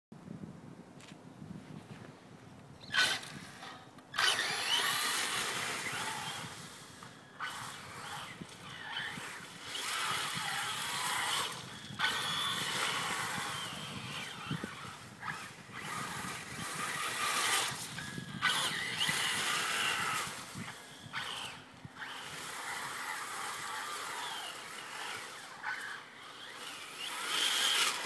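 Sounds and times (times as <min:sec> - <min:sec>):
electric motor whining: 0:02.8 - 0:28.0.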